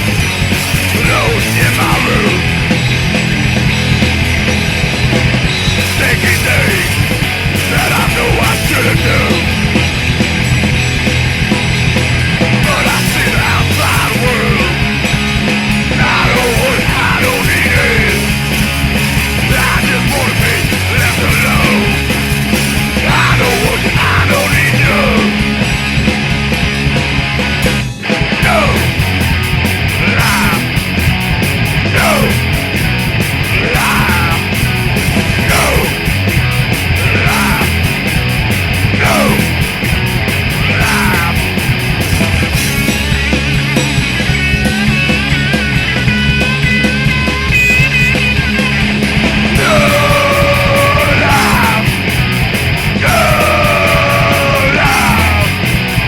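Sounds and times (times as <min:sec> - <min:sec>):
punk rock band playing: 0:00.0 - 0:56.0.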